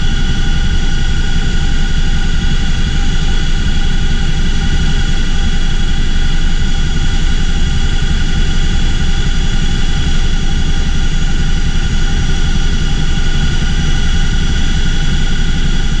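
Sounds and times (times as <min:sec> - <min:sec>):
helicopter engine and rotor rumble: 0:00.0 - 0:16.0
high-pitched engine whine: 0:00.0 - 0:16.0.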